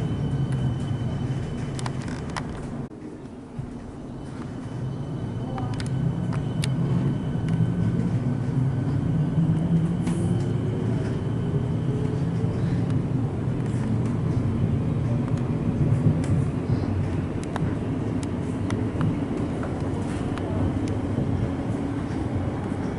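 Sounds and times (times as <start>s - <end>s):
train running noise: 0.0s - 22.9s.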